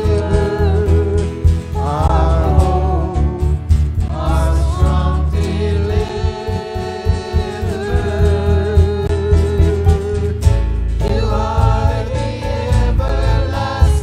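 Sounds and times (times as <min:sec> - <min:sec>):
women singing: 0:00.0 - 0:10.4, 0:11.0 - 0:14.0
acoustic guitar: 0:00.0 - 0:14.0
heavy bass: 0:00.0 - 0:14.0.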